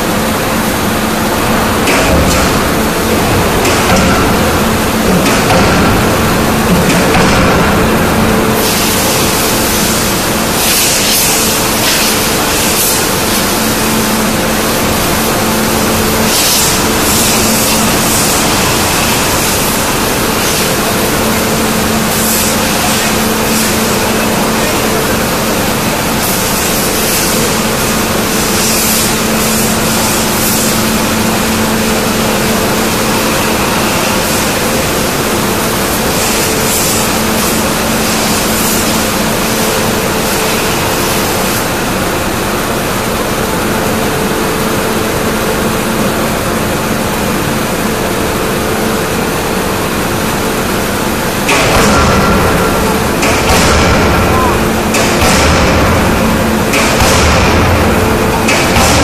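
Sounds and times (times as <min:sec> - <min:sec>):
heavy machine noise: 0:00.0 - 0:59.0
machine power unit humming: 0:00.0 - 0:59.0.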